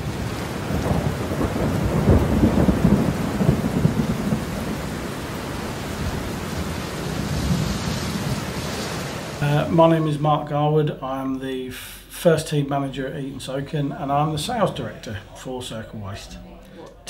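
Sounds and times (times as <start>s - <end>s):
heavy rain pouring: 0.0s - 11.0s, 11.6s - 16.4s.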